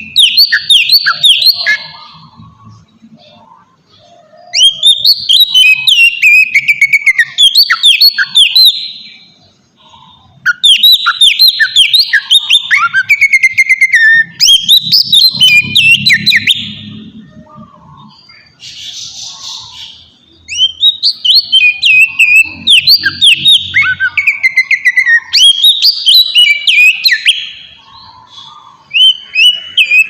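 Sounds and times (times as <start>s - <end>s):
bird singing whistled phrases: 0.0s - 2.4s, 4.2s - 9.3s, 10.0s - 30.0s.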